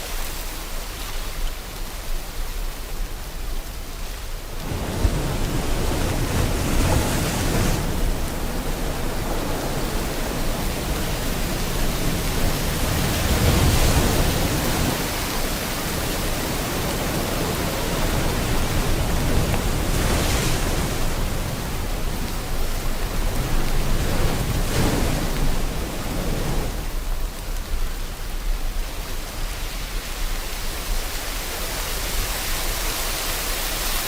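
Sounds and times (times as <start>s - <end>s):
rain hissing: 0.0s - 34.0s
waves breaking: 0.0s - 34.0s.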